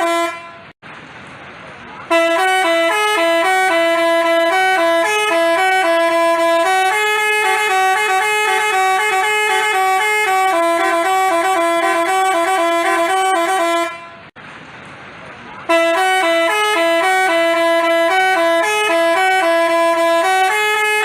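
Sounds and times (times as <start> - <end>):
bus horn playing a tune: 0.0 - 0.8, 2.0 - 14.4, 15.6 - 21.0.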